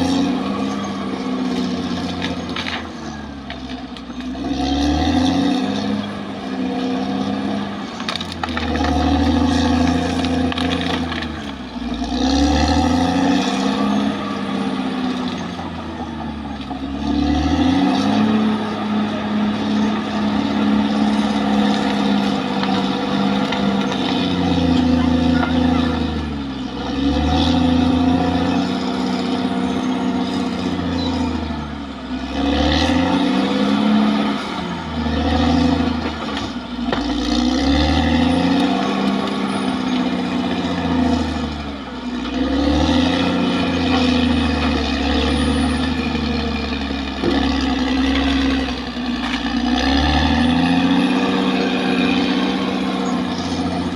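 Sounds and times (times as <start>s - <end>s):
bulldozer diesel engine running hard: 0.0s - 53.9s.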